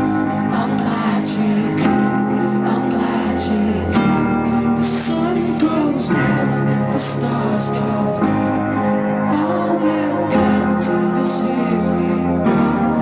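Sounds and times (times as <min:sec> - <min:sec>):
keyboard and band backing: 0:00.0 - 0:13.0
man singing into microphone: 0:00.0 - 0:13.0.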